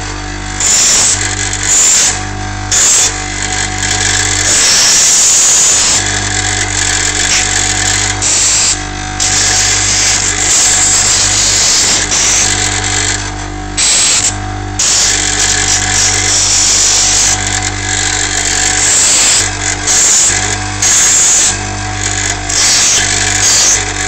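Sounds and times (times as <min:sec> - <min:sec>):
power tool motor grinding: 0:00.0 - 0:24.0.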